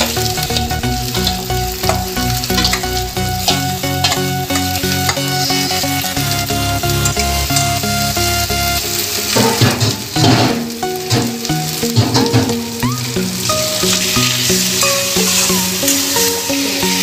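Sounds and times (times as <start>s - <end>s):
background music with held notes: 0.0s - 17.0s
food sizzling: 0.0s - 17.0s.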